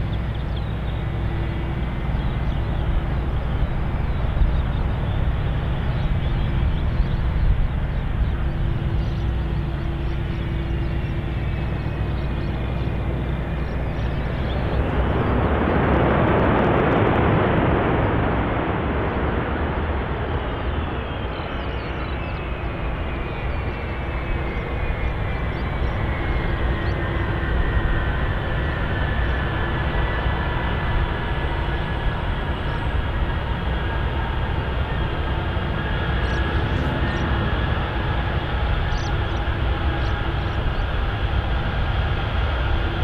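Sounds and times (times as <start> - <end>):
high whine falling in pitch: 0.0 - 43.0
jet engines roaring: 0.0 - 43.0.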